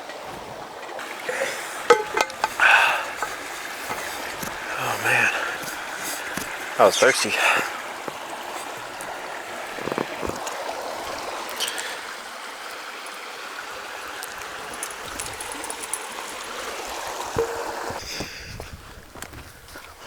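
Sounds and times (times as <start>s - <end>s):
stream water rushing: 0.0s - 18.1s.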